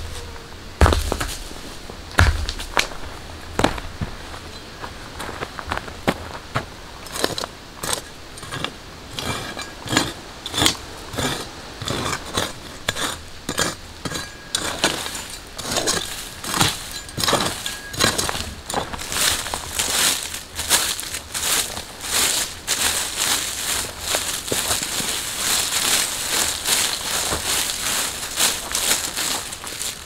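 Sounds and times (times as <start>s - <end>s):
branch brushing over ashes and dirt: 0.0s - 4.2s, 7.1s - 30.0s.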